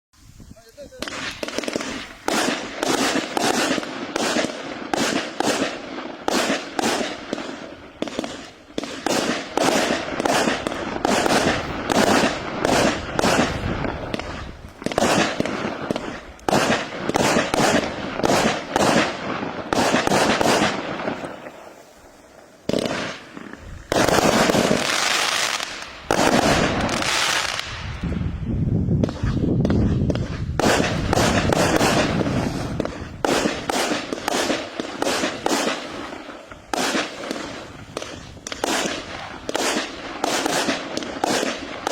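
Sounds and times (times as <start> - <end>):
firework cake firing shots: 0.8 - 28.0, 28.9 - 41.9.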